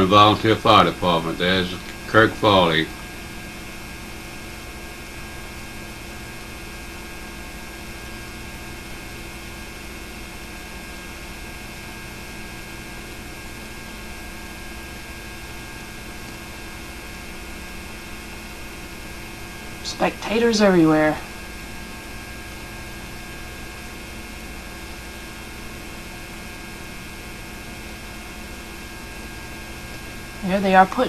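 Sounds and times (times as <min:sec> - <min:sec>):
constant electrical hum: 0:00.0 - 0:31.0.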